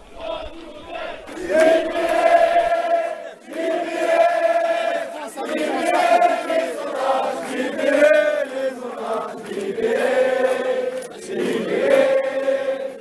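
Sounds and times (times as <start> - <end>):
crowd chanting in unison: 0.0 - 13.0.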